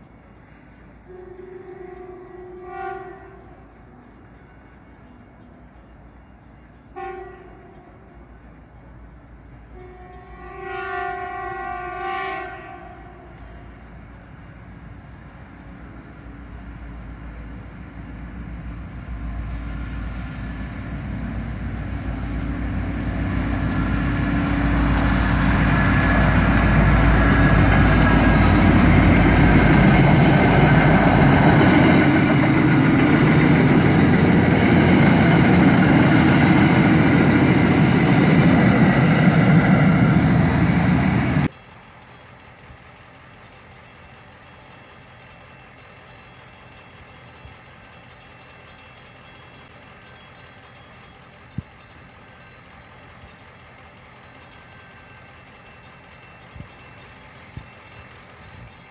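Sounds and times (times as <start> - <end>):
diesel train engine rumble: 0.0 - 58.9
wheels rushing on rail: 0.0 - 58.9.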